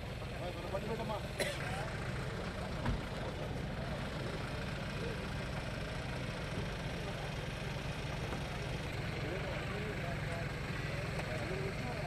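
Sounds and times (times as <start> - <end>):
faint voices of people: 0.0 - 12.0
vehicle engine idling: 0.0 - 12.0.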